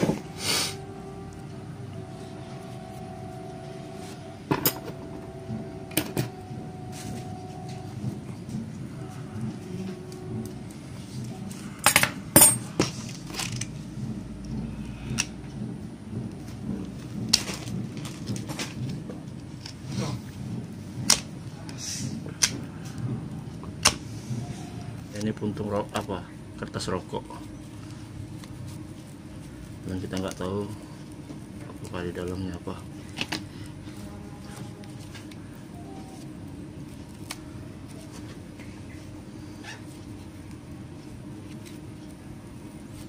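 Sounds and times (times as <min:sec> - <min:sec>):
low background murmur: 0:00.0 - 0:43.0
steady hum: 0:00.0 - 0:43.0.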